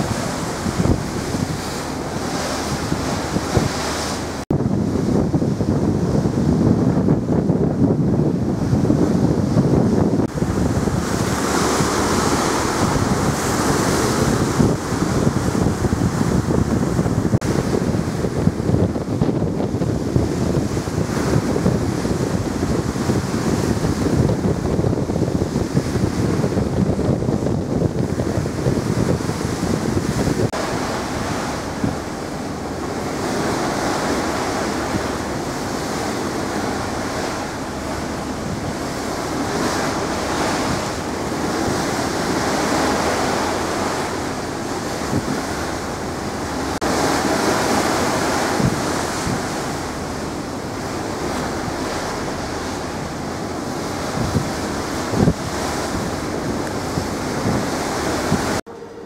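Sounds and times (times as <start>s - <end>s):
sea water rushing along hull: 0.0s - 59.0s
wind buffeting microphone: 0.0s - 59.0s.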